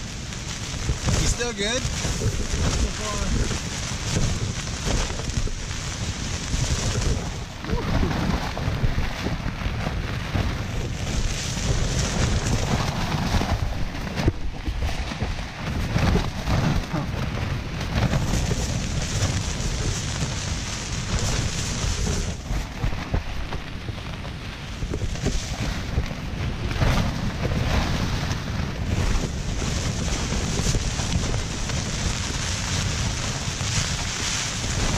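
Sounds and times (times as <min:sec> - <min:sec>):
rain hissing on tent fabric: 0:00.0 - 0:34.9
wind buffeting a tent: 0:00.0 - 0:34.9.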